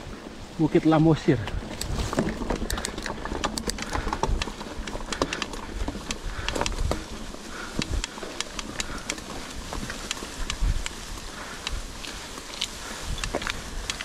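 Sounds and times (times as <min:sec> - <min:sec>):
bike rattling clicks and knocks: 0:00.9 - 0:14.0.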